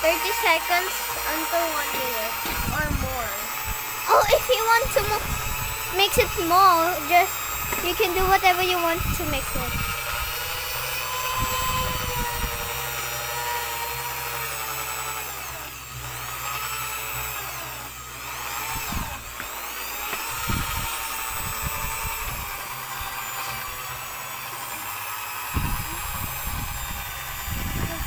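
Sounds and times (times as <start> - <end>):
electric drill mixing liquid: 0.0 - 28.0.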